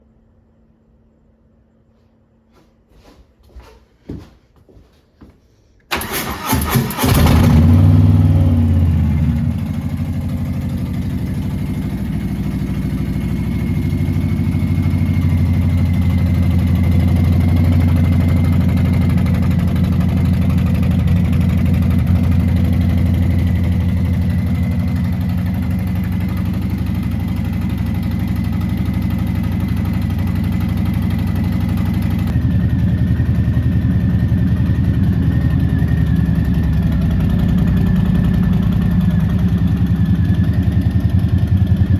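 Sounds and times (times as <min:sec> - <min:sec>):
motorcycle engine idling: 0:06.0 - 0:41.9.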